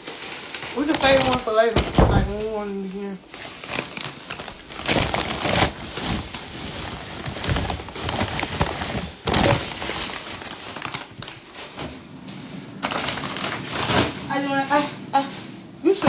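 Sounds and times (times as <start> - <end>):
rustling handling noise: 0.0 - 16.0.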